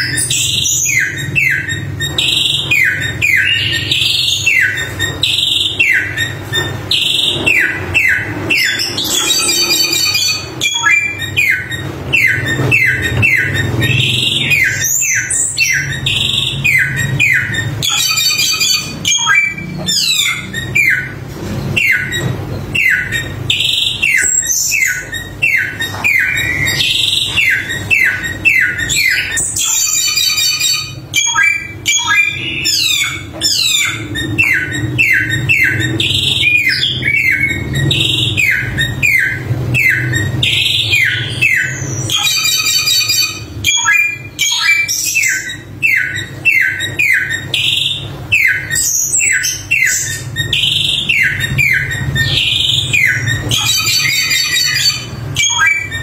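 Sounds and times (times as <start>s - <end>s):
songbird singing whistled notes: 0.0s - 21.2s, 21.8s - 56.0s
harsh high chattering: 0.0s - 56.0s.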